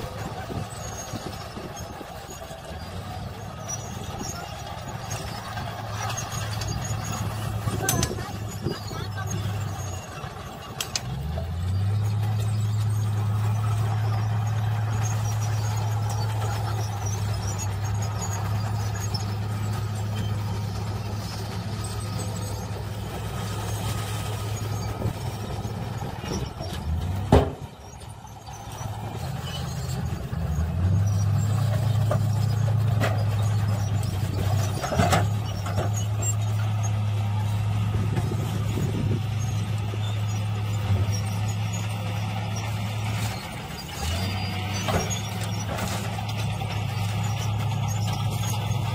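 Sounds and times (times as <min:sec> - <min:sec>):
diesel truck engine humming: 0:00.0 - 0:48.9.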